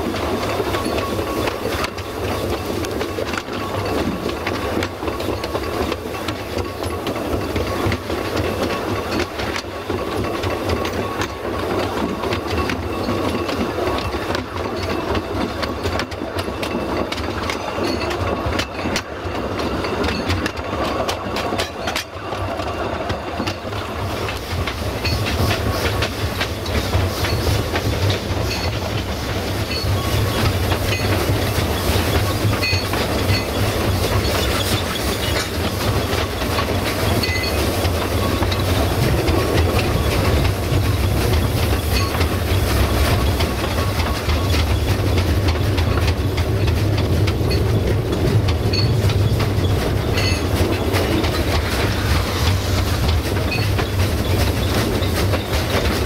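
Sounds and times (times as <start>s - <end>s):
steam train rumbling: 0.0s - 56.0s
wheels clicking over rail joints: 0.0s - 56.0s.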